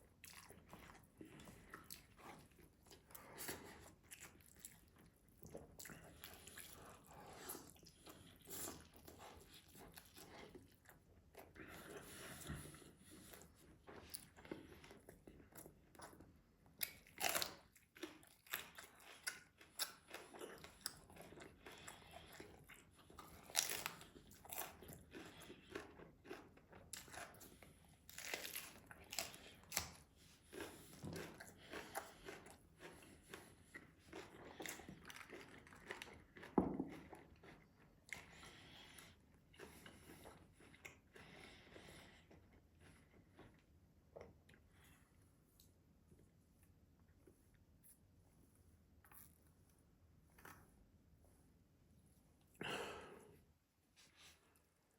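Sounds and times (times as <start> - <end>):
chewing with mouth clicks: 0.0 - 48.0, 49.0 - 49.6.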